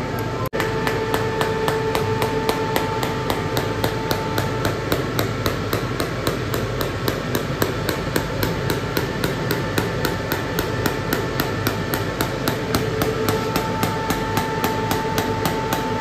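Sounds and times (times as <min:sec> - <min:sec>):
test bench hum: 0:00.0 - 0:16.0.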